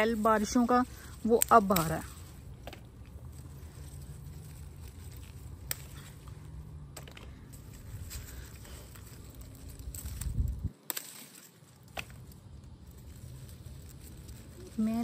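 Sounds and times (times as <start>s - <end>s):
low steady rumble: 0.0s - 10.7s, 11.7s - 15.0s
plants rustling: 0.0s - 15.0s.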